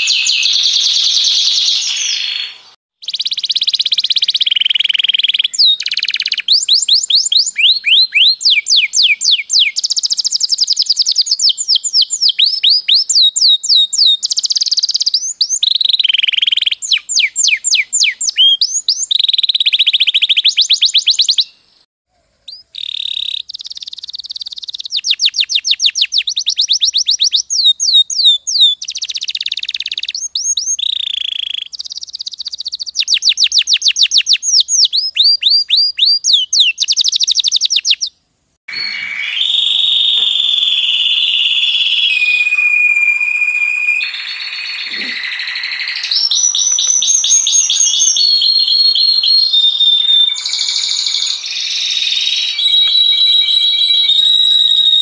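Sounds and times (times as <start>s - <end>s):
canary singing trills: 0.0s - 21.7s, 22.4s - 55.0s.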